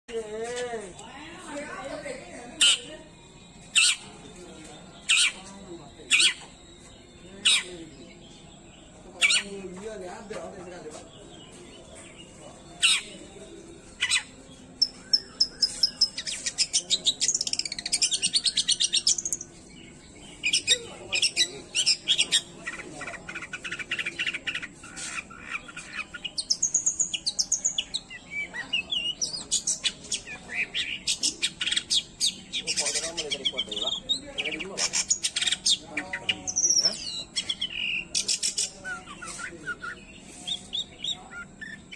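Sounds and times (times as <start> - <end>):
shrike singing: 0.1 - 41.9.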